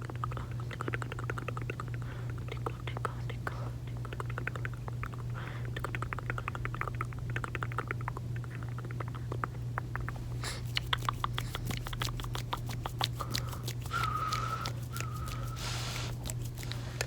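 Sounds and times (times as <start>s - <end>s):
gum chewing mouth clicks: 0.0s - 17.0s.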